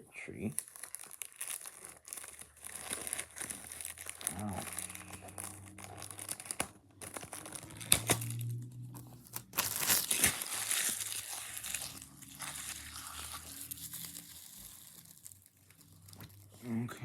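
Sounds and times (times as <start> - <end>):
plastic packaging crinkling: 0.3 - 16.8.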